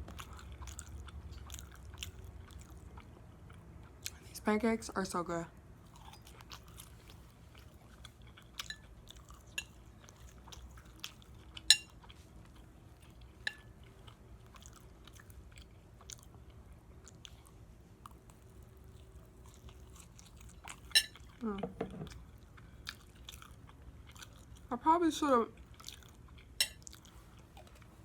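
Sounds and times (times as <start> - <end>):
chewing with wet mouth clicks: 0.0 - 4.2, 5.8 - 21.4, 22.1 - 24.7, 25.6 - 28.0.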